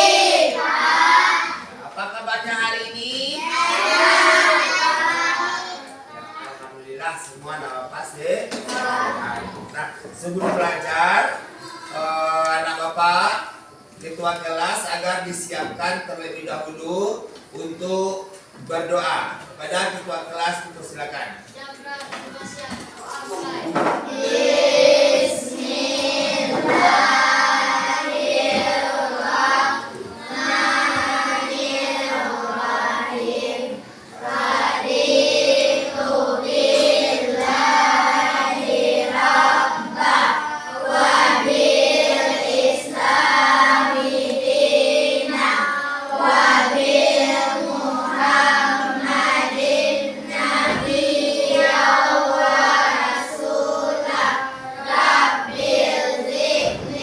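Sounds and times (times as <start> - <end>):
children chanting in unison: 0.0 - 6.5, 8.5 - 13.0, 21.7 - 57.0.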